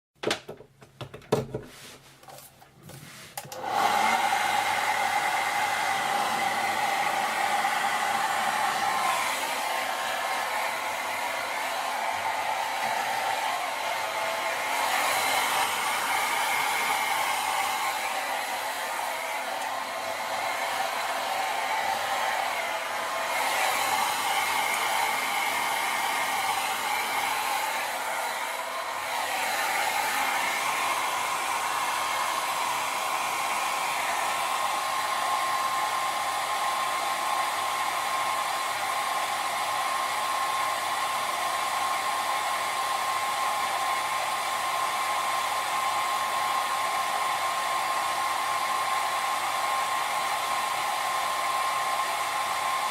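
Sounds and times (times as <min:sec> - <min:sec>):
hair dryer running: 0:02.3 - 0:52.9.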